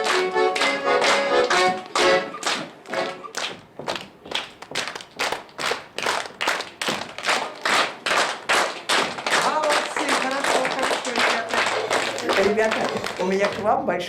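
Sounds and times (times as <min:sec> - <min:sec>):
hands clapping in rhythm: 0:00.0 - 0:13.6.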